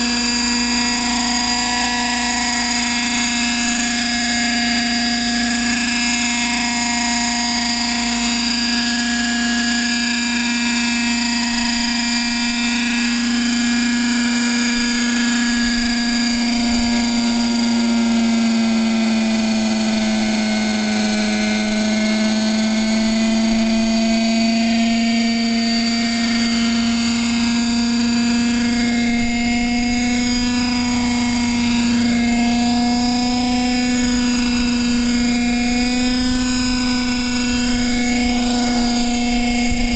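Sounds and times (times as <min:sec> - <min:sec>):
model helicopter rotor hum: 0:00.0 - 0:39.9.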